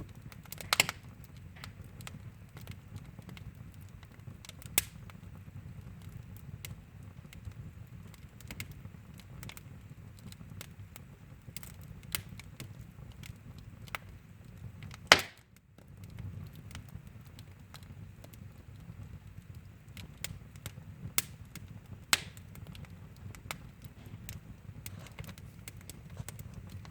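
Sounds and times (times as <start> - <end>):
low rush of flames: 0.0 - 26.9
wood fire crackling and popping: 0.0 - 26.9.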